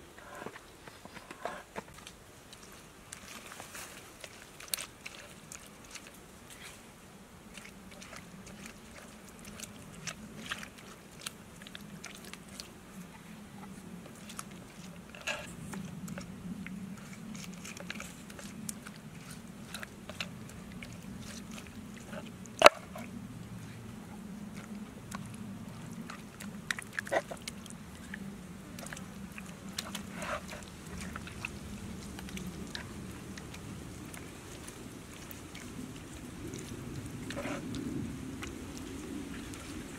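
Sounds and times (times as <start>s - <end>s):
hands squelching marinade into meat: 2.5s - 39.9s.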